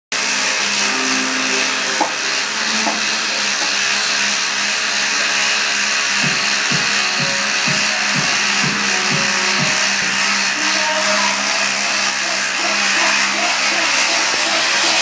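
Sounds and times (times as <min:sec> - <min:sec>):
bicycle trainers whirring: 0:00.1 - 0:15.0.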